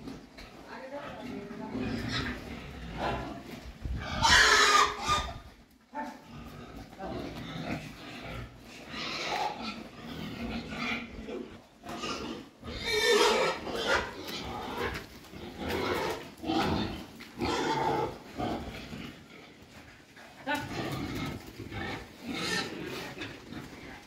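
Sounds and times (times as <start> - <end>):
pigs grunting: 0.0 - 24.0.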